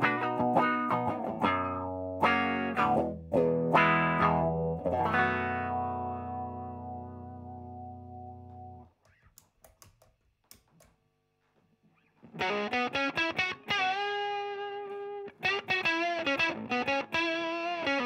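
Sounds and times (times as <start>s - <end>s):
fuzz electric guitar chords: 0.0s - 8.8s, 12.3s - 18.0s.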